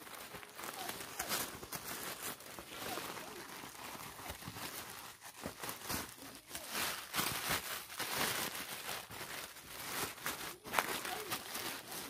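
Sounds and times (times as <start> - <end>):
plastic sheeting rustling: 0.0 - 12.0.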